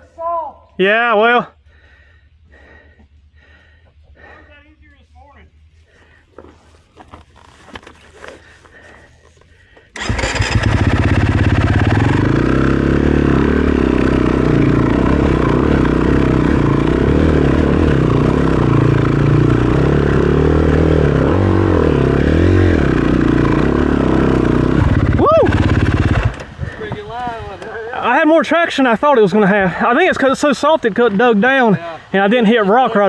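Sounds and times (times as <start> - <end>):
dirt bike engine idling: 1.5 - 6.6, 8.1 - 33.0.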